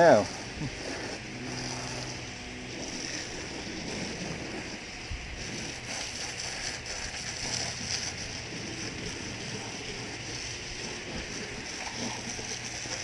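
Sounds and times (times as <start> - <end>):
hose nozzle spray hissing: 0.0 - 13.0
spray spattering on metal: 0.0 - 13.0.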